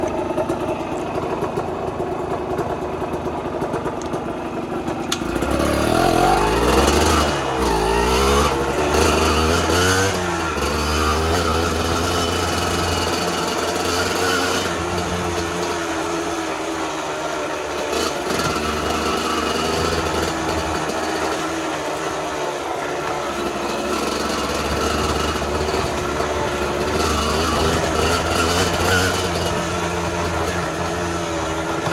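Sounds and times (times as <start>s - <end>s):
dirt bike engines revving: 0.0s - 31.9s.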